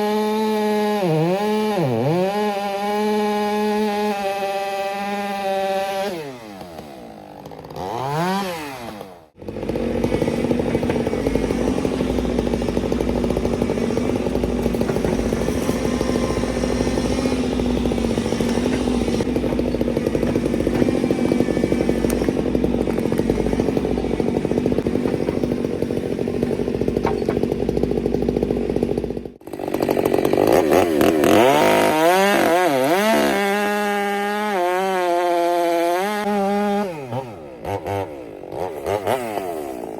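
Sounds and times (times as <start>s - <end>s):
chainsaw cutting tree trunk: 0.0s - 39.9s
chainsaw revving: 0.0s - 39.9s.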